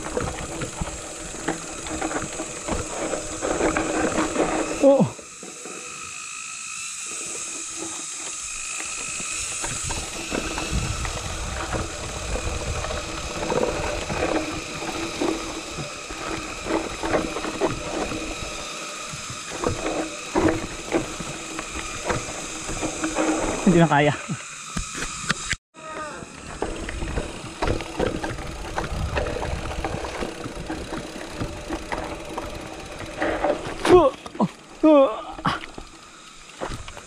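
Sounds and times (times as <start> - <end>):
bike frame rattling: 0.0 - 5.0, 7.7 - 37.0.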